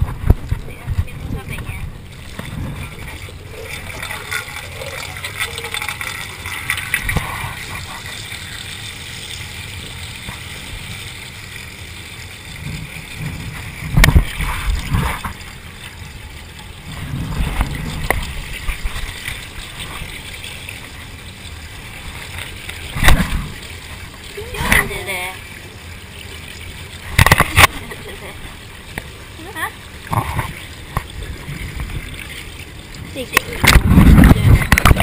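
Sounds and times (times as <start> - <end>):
water rushing from garden hose: 0.0 - 35.0.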